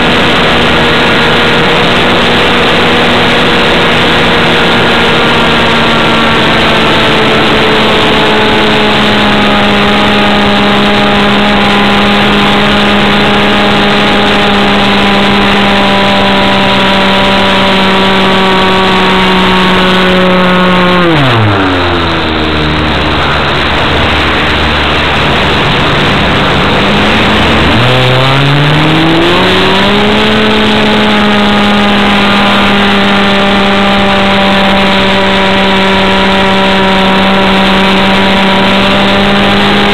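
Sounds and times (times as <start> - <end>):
model airplane engine: 0.0 - 39.9.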